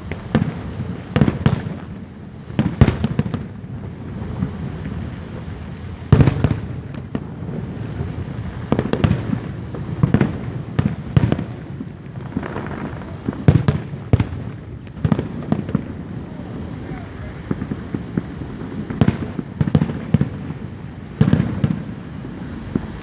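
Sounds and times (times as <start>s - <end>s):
fireworks booming: 0.0s - 23.0s.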